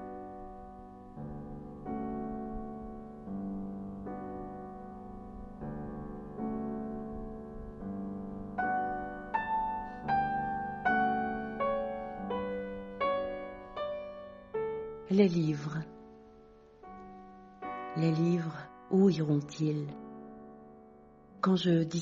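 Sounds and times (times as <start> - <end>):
piano melody of single notes: 0.0 - 22.0
slow piano chords: 0.0 - 22.0.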